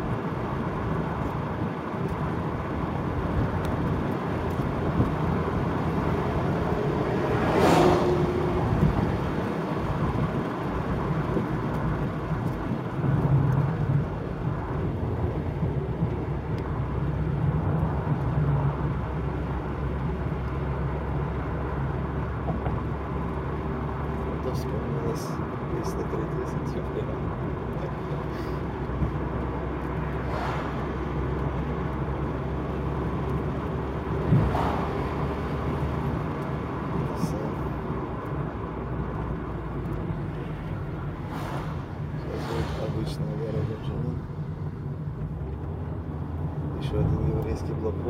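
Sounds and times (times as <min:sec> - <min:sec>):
wind and road noise: 0:00.0 - 0:48.0.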